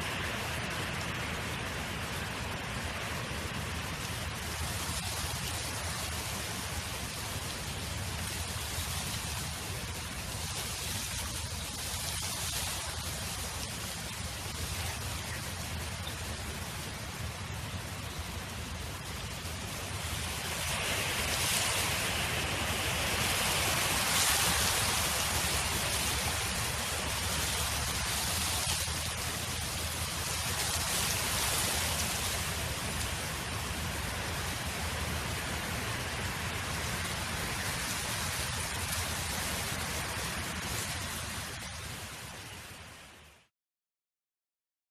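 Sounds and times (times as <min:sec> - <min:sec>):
wind blowing in gusts: 0:00.0 - 0:43.2.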